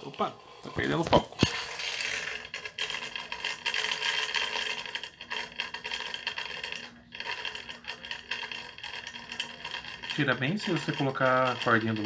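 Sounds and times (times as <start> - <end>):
spinning top rattling on tiles: 0.0 - 12.0.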